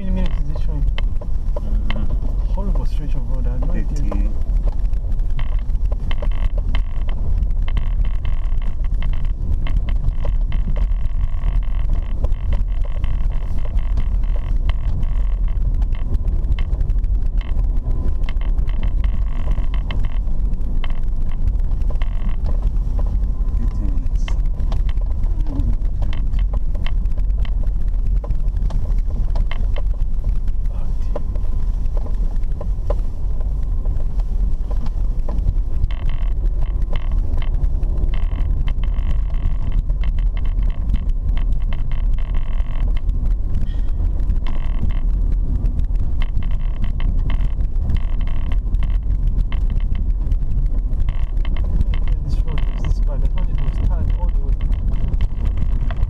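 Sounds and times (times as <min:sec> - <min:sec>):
car knocks and rattles: 0:00.0 - 0:56.0
engine and tyres rumbling: 0:00.0 - 0:56.0.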